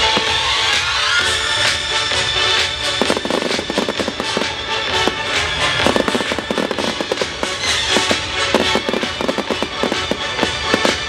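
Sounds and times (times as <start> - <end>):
fireworks bangs and pops: 0.0 - 11.0
loud music: 0.0 - 11.0.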